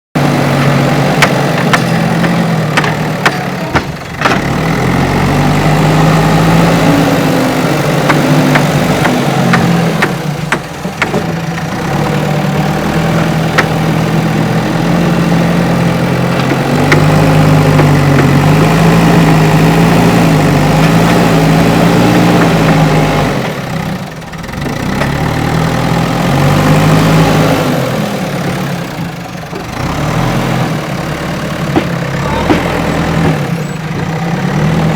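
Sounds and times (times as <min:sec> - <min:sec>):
diesel engine revving: 0:00.2 - 0:34.9.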